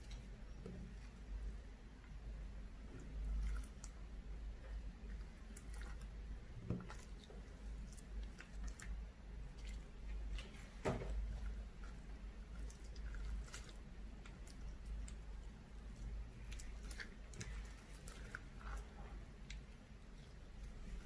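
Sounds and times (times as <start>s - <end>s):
slime squishing: 0.0s - 21.0s.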